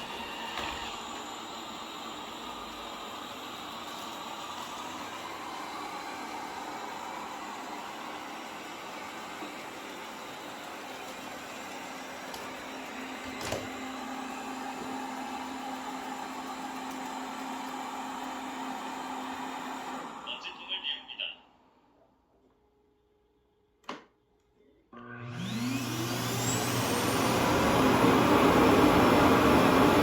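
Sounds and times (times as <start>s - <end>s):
robot vacuum whirring: 0.0s - 20.8s, 25.3s - 30.0s.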